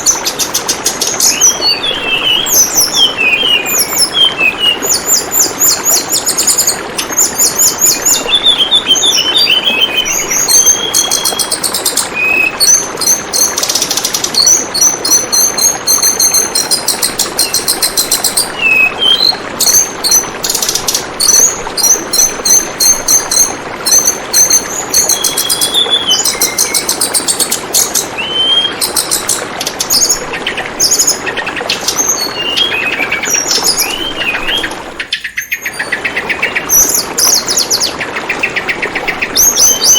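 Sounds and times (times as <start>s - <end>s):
birds chirping and trilling: 0.0s - 39.9s
flowing water: 0.0s - 39.9s.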